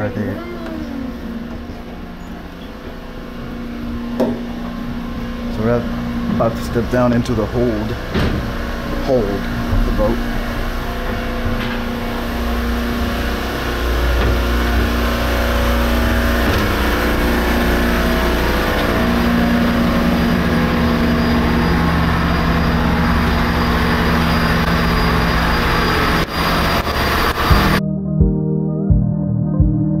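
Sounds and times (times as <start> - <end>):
engine room machinery drone: 0.0 - 27.9.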